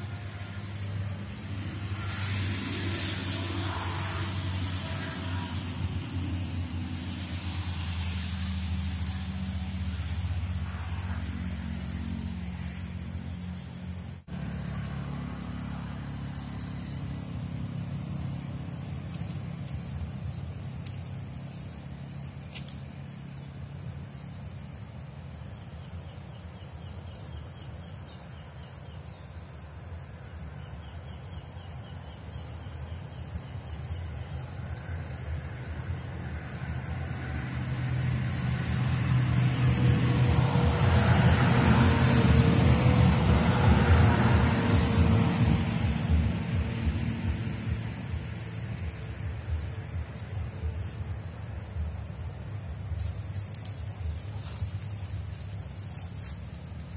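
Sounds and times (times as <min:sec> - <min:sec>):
high insect drone: 0:00.0 - 0:56.9
low engine rumble: 0:00.0 - 0:56.9.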